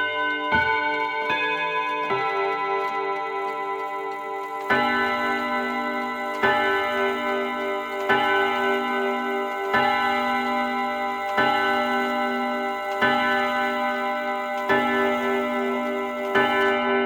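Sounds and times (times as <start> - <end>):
mantel clock striking: 0.0 - 17.0.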